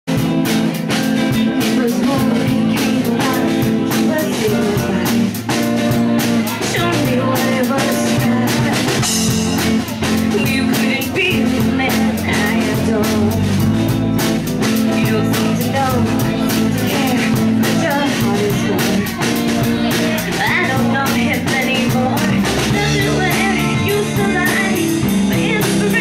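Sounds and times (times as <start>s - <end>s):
drum kit beat: 0.1s - 26.0s
electric guitar: 0.1s - 26.0s
woman singing: 1.1s - 13.9s, 14.6s - 26.0s.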